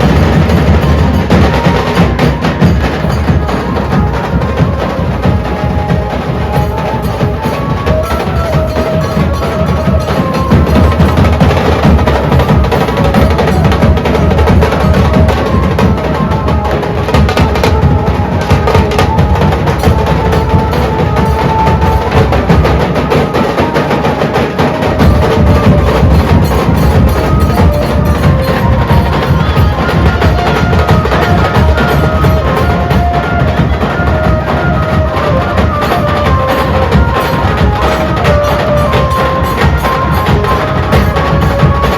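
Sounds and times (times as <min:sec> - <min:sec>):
deep dhol strokes: 0:00.0 - 0:41.9
rapid stick drumming: 0:06.6 - 0:41.9.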